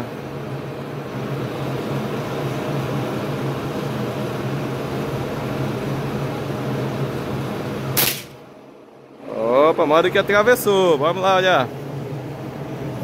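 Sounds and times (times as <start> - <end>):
constant hiss: 0.0 - 13.0
steady low hum: 0.0 - 13.0.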